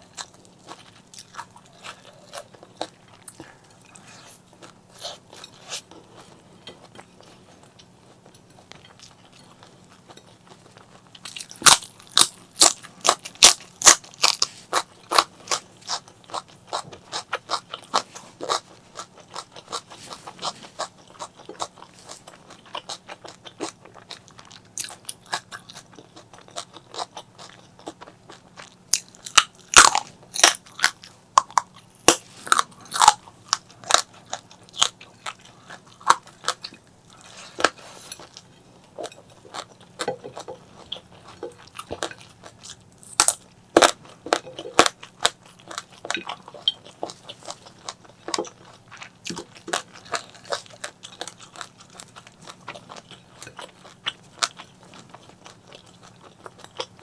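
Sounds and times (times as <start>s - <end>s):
crunching and chewing fried fish: 0.0s - 57.0s.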